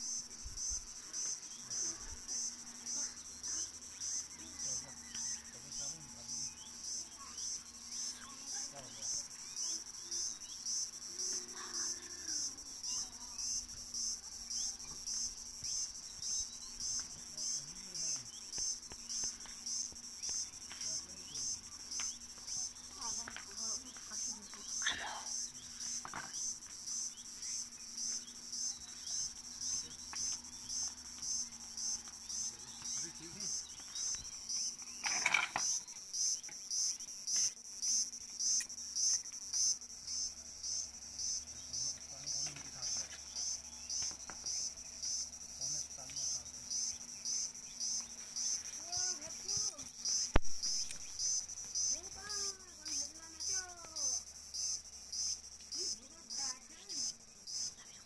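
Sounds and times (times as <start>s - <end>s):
cricket chirping: 0.0s - 58.0s
sharp cricket calls: 0.0s - 58.0s.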